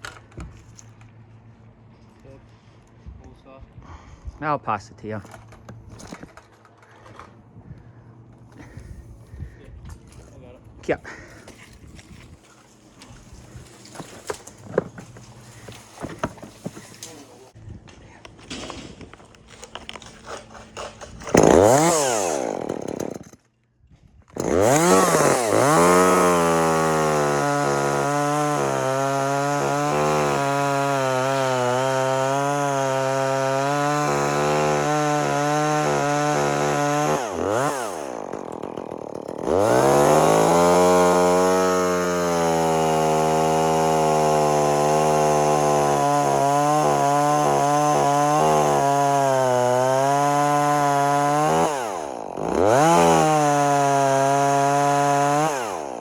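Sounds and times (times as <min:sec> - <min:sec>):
chainsaw cutting wood: 0:05.3 - 0:07.4, 0:08.4 - 0:08.9, 0:11.1 - 0:17.6, 0:18.3 - 0:23.6, 0:24.3 - 0:56.0.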